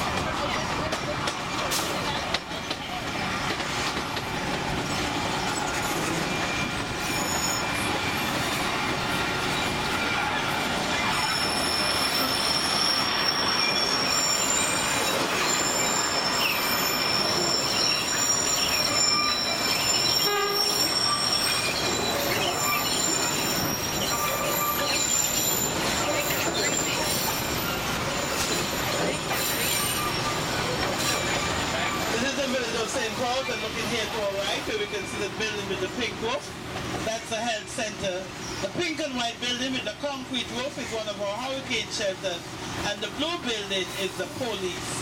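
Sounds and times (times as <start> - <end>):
high wheel squeals: 0.0 - 36.5, 37.5 - 39.9
train wheels rumbling and rattling: 0.0 - 45.0.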